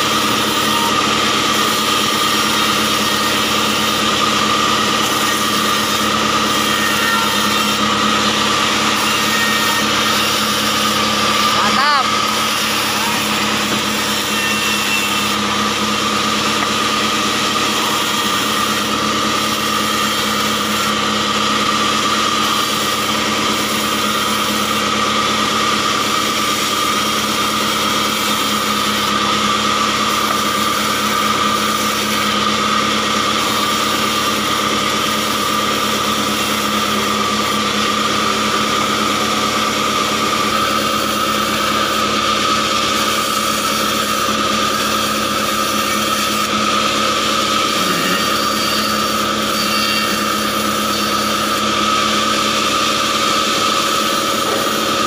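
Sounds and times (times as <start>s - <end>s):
bandsaw mill whining: 0.0s - 55.0s.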